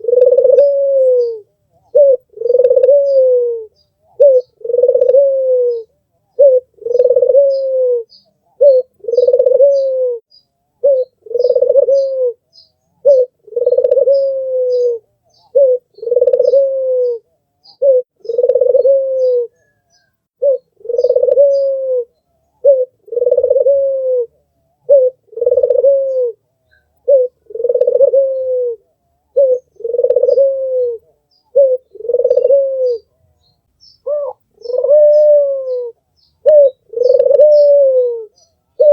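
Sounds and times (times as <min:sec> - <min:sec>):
faint small bird chirps: 0:00.0 - 0:23.8, 0:24.5 - 0:38.9
dove cooing: 0:00.0 - 0:38.9.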